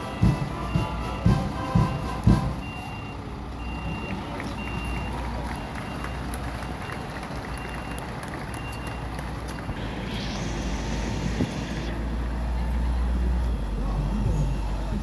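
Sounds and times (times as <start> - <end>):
fire engines driving past: 0.0 - 15.0.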